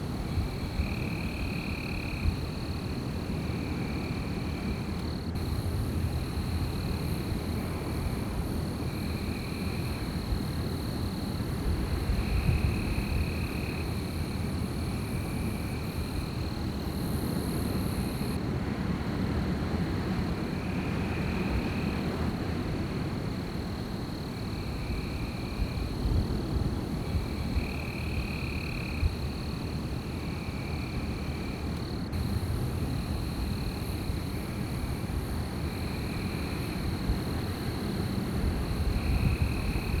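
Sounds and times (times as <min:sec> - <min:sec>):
wind blowing with low rumble: 0:00.0 - 0:40.0.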